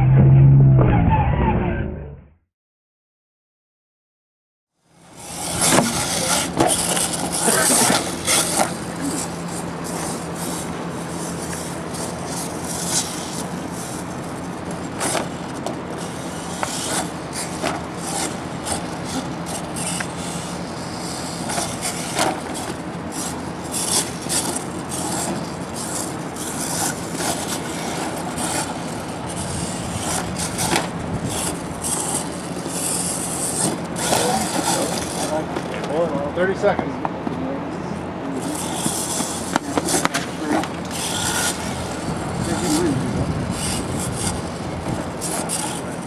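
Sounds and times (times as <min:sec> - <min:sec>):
toy truck motor whirring: 0:04.9 - 0:36.0, 0:38.4 - 0:46.0.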